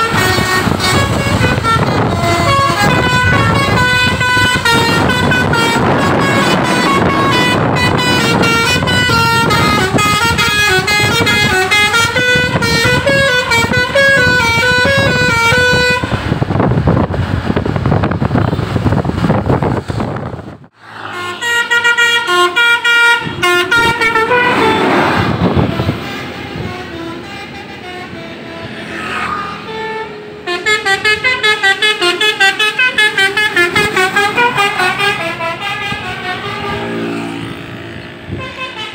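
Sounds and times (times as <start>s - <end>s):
bus horns playing tunes: 0.0s - 16.6s, 20.8s - 38.9s
engine and road noise: 0.0s - 38.9s.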